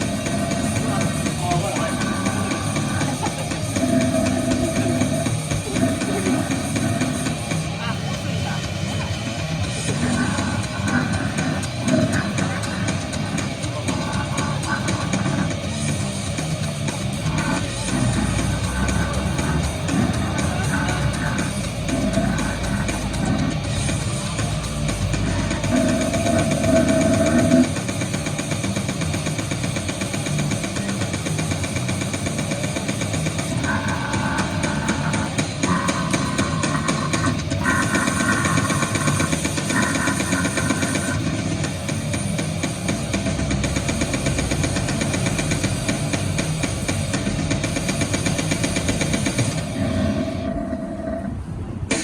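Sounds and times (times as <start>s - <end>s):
distorted electronic noise music: 0.0s - 52.0s
higher harsh noise layer: 0.0s - 52.0s.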